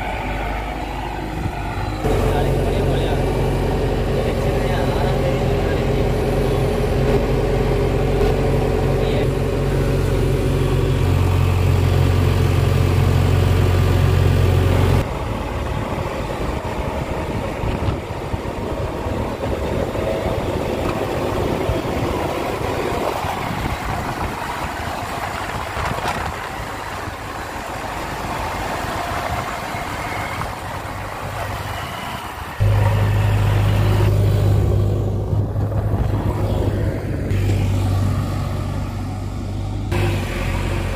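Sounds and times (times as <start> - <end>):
diesel engine humming: 0.0 - 40.9
rough engine and tyre noise: 0.0 - 40.9.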